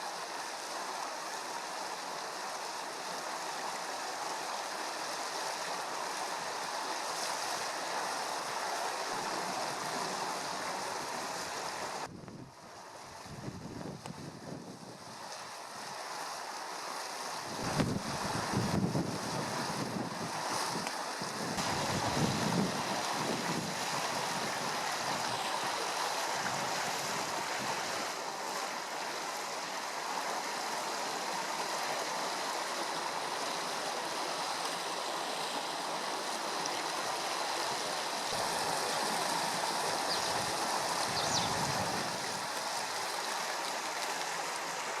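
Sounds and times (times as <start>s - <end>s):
river water rushing: 0.0s - 13.4s, 14.2s - 45.0s.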